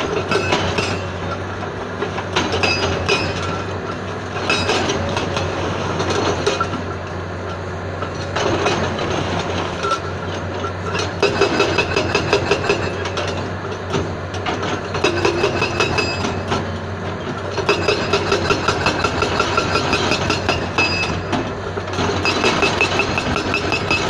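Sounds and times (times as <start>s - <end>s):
hydraulic breaker hammering rock: 0.0s - 6.8s, 10.8s - 24.0s.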